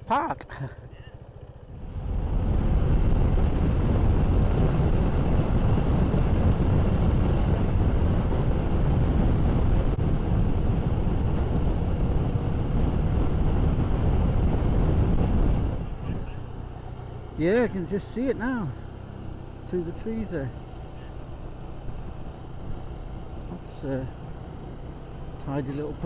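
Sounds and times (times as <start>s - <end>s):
motorcycle engine at speed: 0.0s - 26.0s
wind rushing over microphone: 1.6s - 26.0s.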